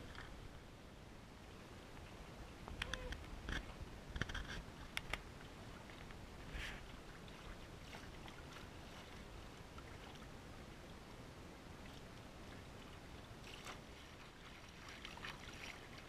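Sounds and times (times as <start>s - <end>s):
water swishing along boat hull: 0.0s - 16.0s.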